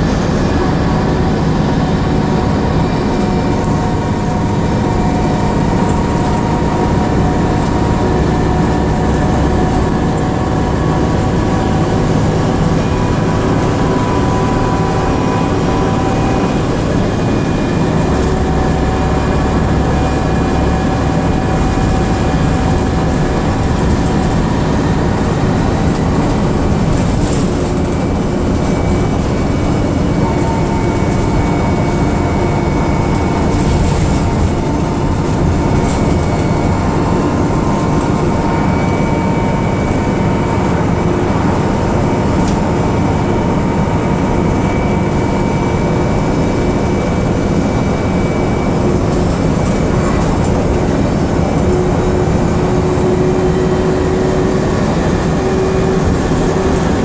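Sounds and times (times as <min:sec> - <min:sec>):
bus engine and road noise: 0:00.0 - 0:57.0
sustained whine: 0:00.0 - 0:57.0.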